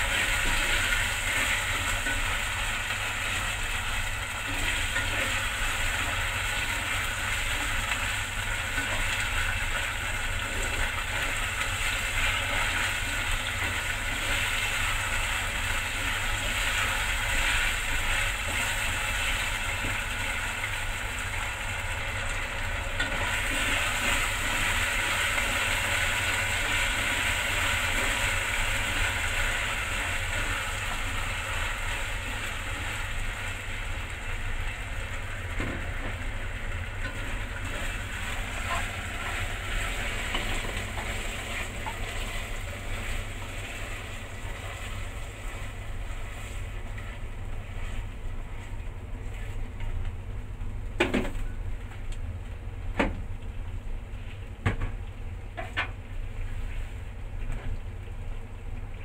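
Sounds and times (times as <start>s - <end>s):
stir-fry sizzling: 0.0s - 51.6s.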